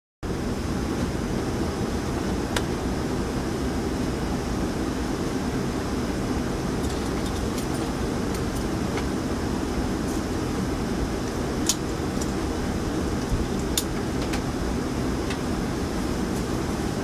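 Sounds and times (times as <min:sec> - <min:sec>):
low mechanical rumble and hum: 0:00.2 - 0:17.0.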